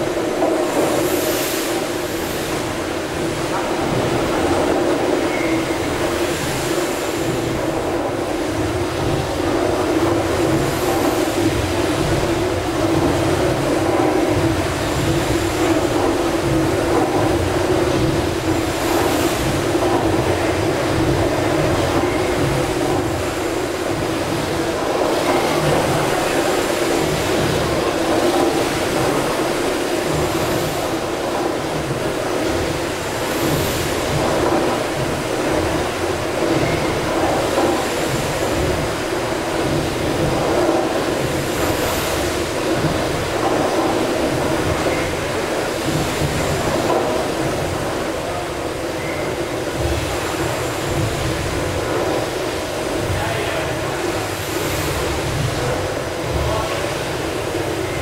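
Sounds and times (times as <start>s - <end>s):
steam engines running: 0.0s - 58.0s.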